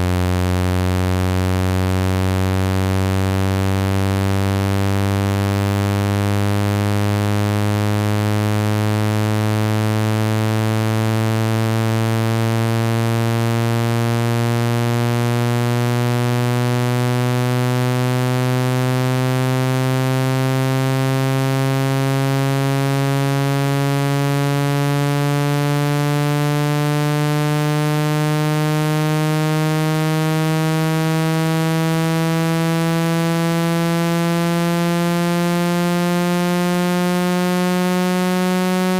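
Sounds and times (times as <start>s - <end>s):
electronic buzzing tone rising in pitch: 0.0s - 38.9s.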